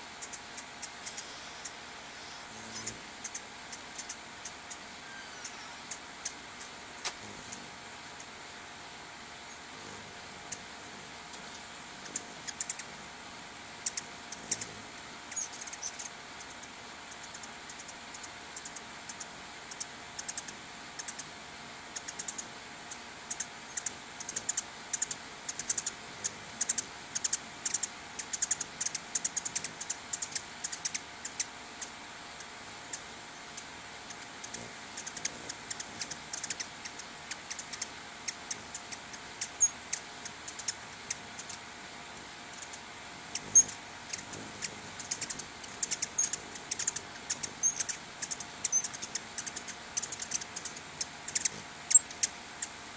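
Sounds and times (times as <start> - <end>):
hummingbird chip calls: 0.0 - 8.6, 9.3 - 52.8.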